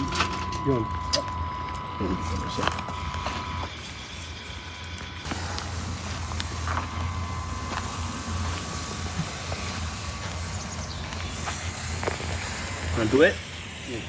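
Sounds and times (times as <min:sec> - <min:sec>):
low mechanical hum: 0:00.0 - 0:13.9
faint high whine: 0:00.0 - 0:14.0.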